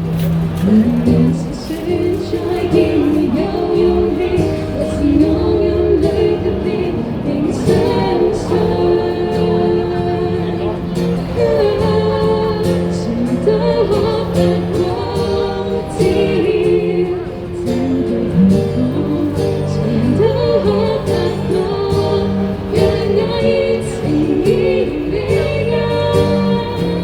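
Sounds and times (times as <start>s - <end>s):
lead singer singing: 0.6s - 27.0s.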